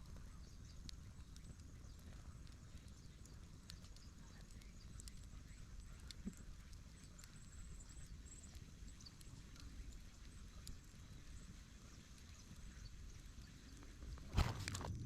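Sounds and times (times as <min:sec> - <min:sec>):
scattered ticks: 0:00.0 - 0:15.0.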